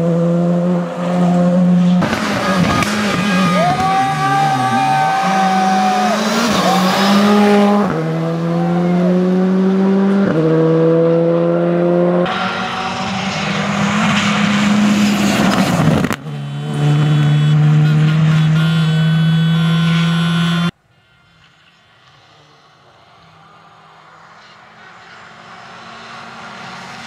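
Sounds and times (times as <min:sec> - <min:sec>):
rally car engine at full throttle: 0:00.0 - 0:27.0.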